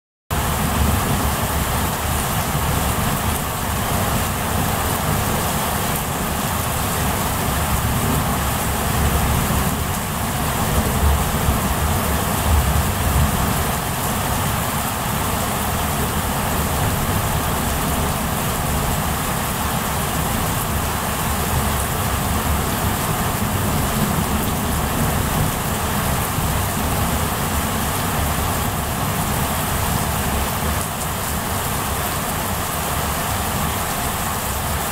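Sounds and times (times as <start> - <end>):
heavy rain falling: 0.3 - 34.9.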